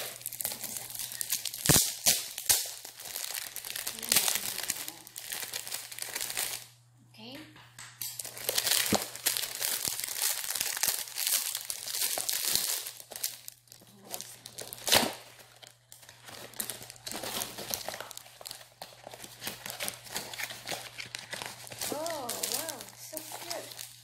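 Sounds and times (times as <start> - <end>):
plastic wrapping crinkling: 0.0 - 6.8, 8.0 - 24.0.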